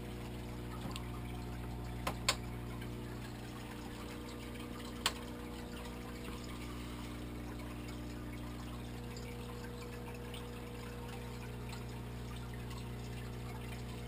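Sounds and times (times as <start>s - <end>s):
aquarium filter hum: 0.0s - 14.0s
water trickling and splashing: 0.0s - 14.0s.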